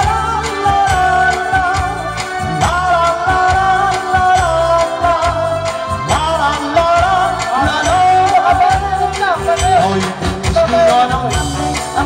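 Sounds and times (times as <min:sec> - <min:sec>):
electronic keyboard dance music: 0:00.0 - 0:12.0.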